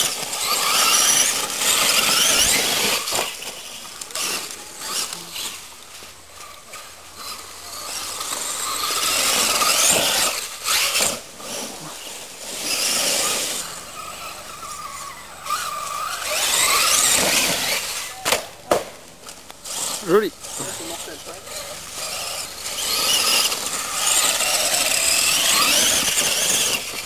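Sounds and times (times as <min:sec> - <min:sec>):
electric motor whining: 0:00.0 - 0:18.6, 0:19.2 - 0:27.0
tyres and flung dirt hissing: 0:00.0 - 0:27.0.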